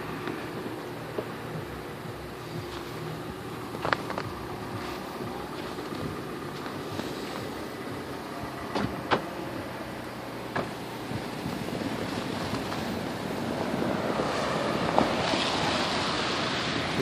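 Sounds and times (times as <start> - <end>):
tyres crunching through snow: 0.0 - 8.9, 10.4 - 17.0
car engine running: 0.0 - 17.0.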